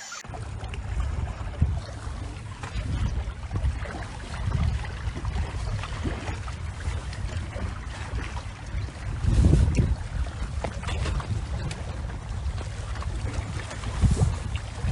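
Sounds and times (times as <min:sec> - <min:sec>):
low uneven rumble: 0:00.0 - 0:14.9
water lapping and sloshing: 0:00.2 - 0:14.9.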